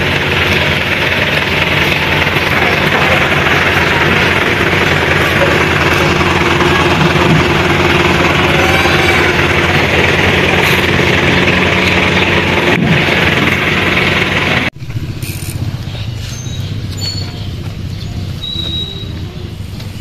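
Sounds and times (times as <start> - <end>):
low hum: 0.0 - 20.0
motor running: 0.0 - 20.0.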